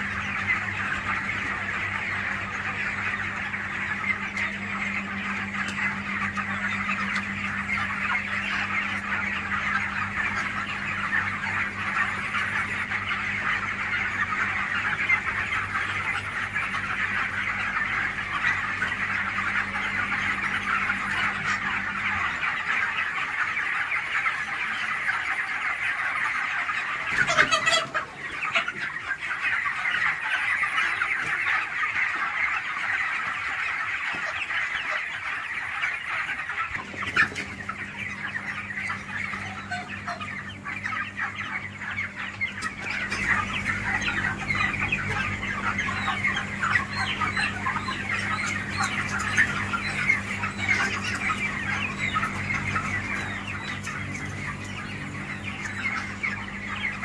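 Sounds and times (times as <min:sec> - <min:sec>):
chickens calling: 0:00.0 - 0:57.0.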